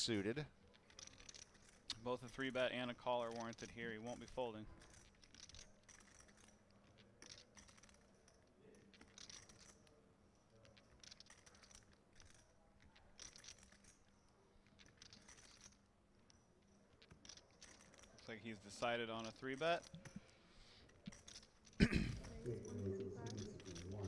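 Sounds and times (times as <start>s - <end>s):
poker chips clicking: 0.1s - 9.9s, 10.6s - 24.0s.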